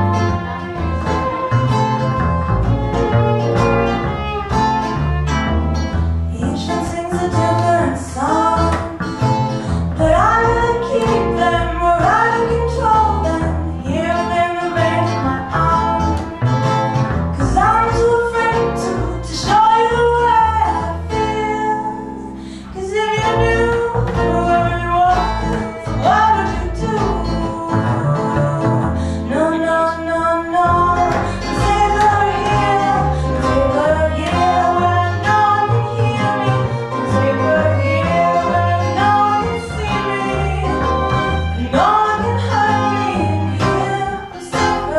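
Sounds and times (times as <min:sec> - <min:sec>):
guitar: 0:00.0 - 0:44.9
person singing: 0:06.3 - 0:16.4, 0:17.4 - 0:44.9.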